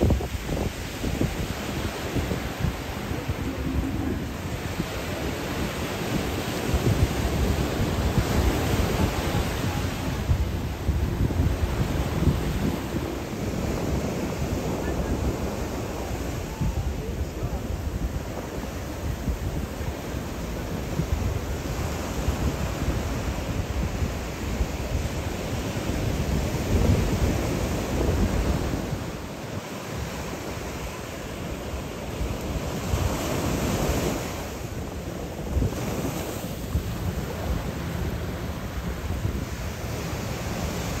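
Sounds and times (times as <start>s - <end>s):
surf washing onto beach: 0.0s - 41.0s
wind buffeting microphone: 0.0s - 41.0s.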